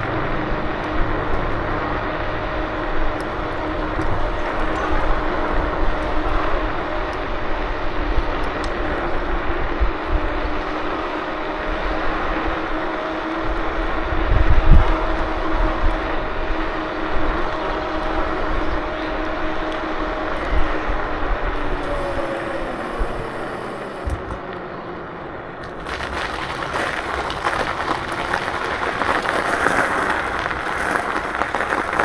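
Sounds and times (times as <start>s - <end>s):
wind buffeting microphone: 0.0s - 24.6s, 25.7s - 32.0s
electric scooter motor whine: 0.0s - 32.0s
tyre and road noise: 0.0s - 32.0s.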